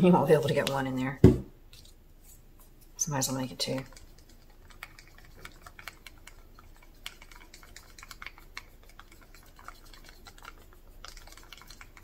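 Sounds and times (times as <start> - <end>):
stick stirring paint in cup: 0.3 - 2.0, 2.6 - 12.0.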